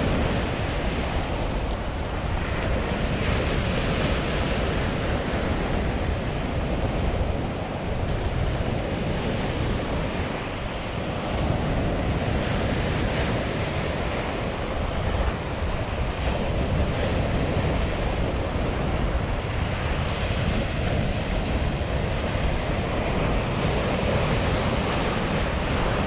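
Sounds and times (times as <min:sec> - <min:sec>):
waves washing on pebble beach: 0:00.0 - 0:26.0
wind rumble on microphone: 0:00.0 - 0:26.0.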